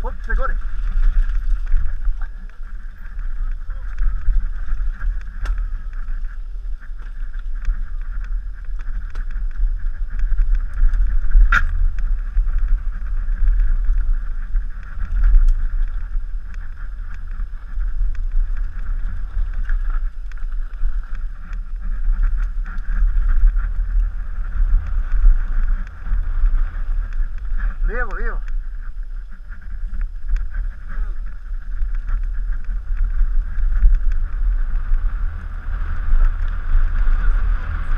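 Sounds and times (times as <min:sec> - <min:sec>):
wind rumbling on microphone: 0:00.0 - 0:37.9.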